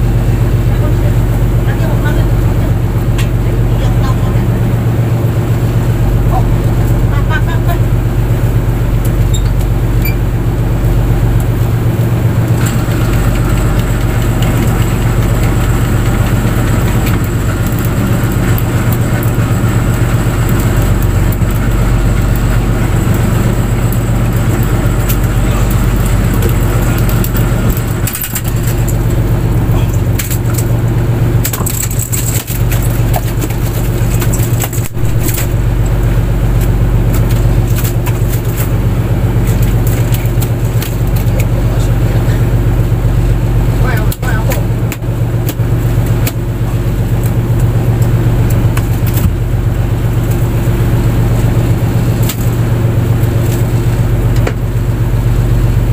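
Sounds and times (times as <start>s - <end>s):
boat engine running: 0.0s - 55.9s
crackles and knocks: 0.2s - 55.9s.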